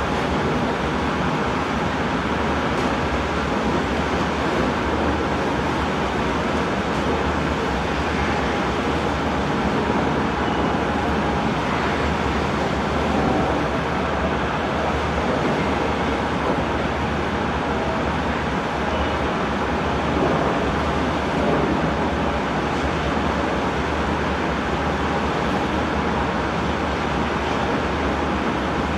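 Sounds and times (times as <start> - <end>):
ferry engines rumbling: 0.0 - 28.9.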